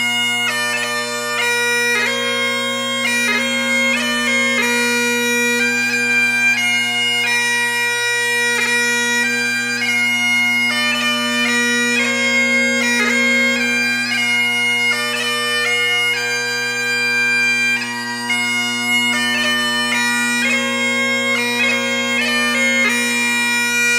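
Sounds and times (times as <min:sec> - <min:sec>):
bagpipes playing melody with drones: 0:00.0 - 0:23.9.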